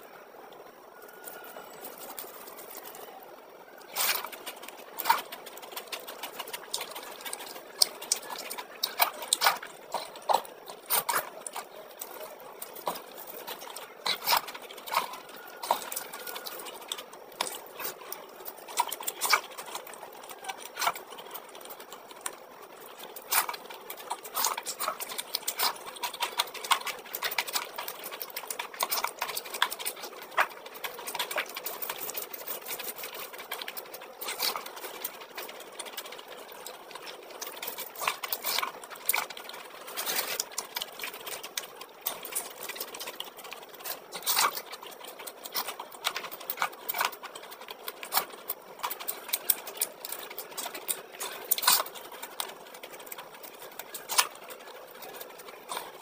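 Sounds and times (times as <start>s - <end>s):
person chewing and lip smacking: 1.0s - 56.0s.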